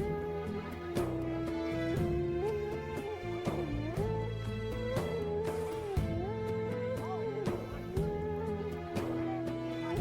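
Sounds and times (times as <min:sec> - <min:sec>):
slow melody with light beats: 0:00.0 - 0:10.0.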